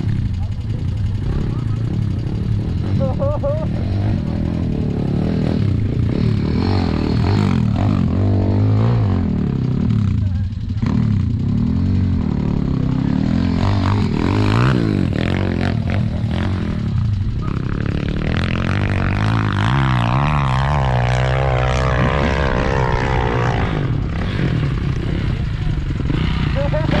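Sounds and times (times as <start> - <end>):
motorcycle engine revving: 0.0 - 27.0
motorcycle engines idling: 0.0 - 27.0.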